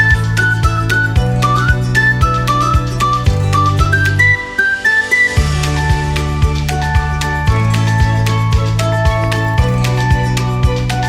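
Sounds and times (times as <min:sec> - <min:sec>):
upbeat music with whistled melody: 0:00.0 - 0:11.0.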